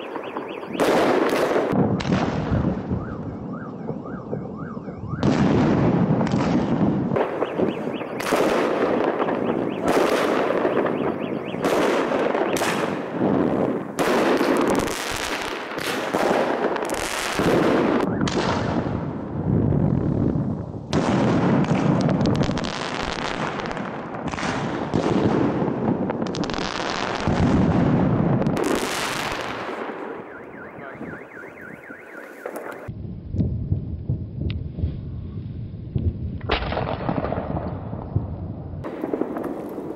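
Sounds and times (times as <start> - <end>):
fireworks bursting with bangs: 0.0 - 35.1, 35.9 - 39.9.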